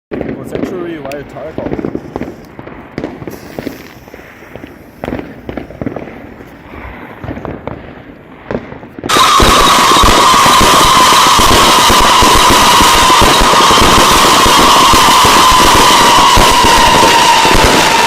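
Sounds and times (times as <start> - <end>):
firework pops and crackles: 0.1 - 18.0
firework hiss with high whistle: 1.7 - 8.0, 9.0 - 18.0.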